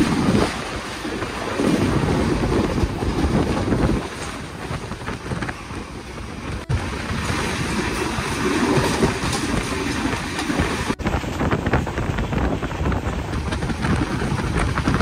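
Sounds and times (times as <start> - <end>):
train low running rumble: 0.0 - 15.0
wind buffeting microphone: 0.0 - 15.0.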